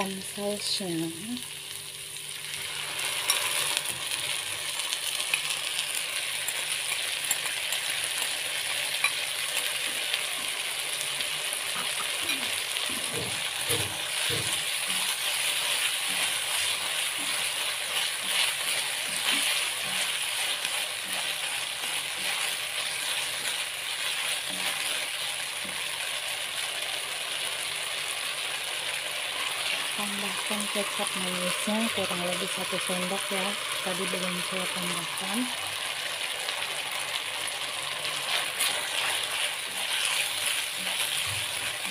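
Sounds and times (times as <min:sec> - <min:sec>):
vegetables sizzling in a wok: 0:00.0 - 0:41.9.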